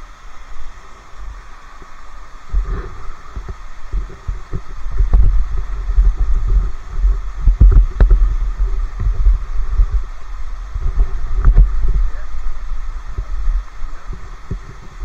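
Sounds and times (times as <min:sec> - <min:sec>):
microphone handling rumble: 0:02.4 - 0:15.0.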